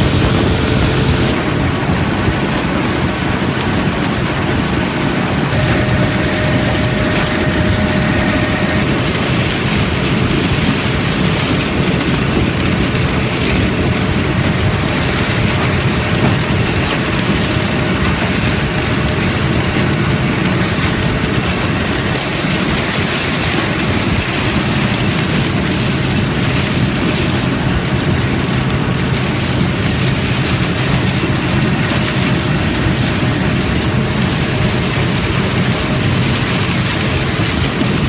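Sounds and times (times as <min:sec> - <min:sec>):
harvest machinery running: 0:00.0 - 0:38.0.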